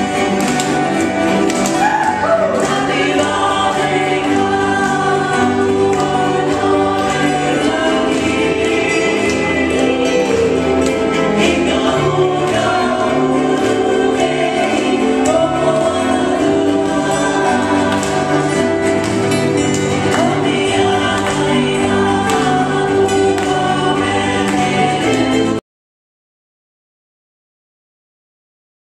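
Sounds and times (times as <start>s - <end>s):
person singing: 0.0s - 25.6s
ukulele: 0.0s - 25.6s.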